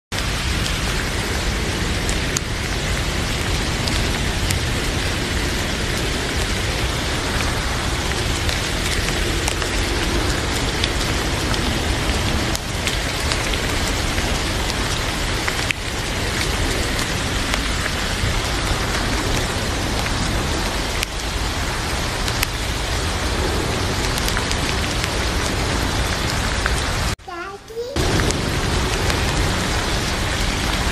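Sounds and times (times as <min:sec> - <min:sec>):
steady rain falling: 0:00.1 - 0:30.9
rain drop ticks: 0:00.2 - 0:26.9, 0:28.0 - 0:30.9.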